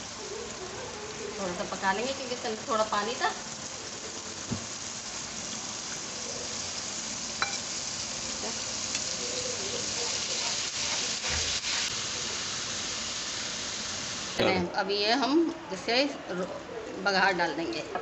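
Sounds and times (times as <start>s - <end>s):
food sizzling in frying pan: 0.0s - 15.4s.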